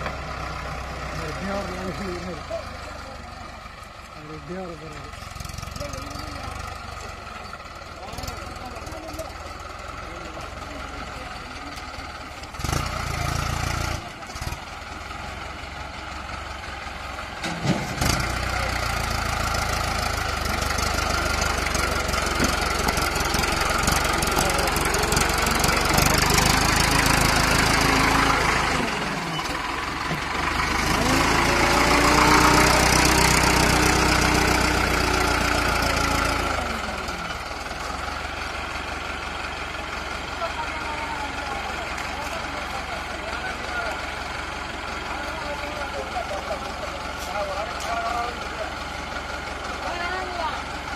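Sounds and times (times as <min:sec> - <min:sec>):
tractor diesel engines labouring: 0:00.0 - 0:50.9.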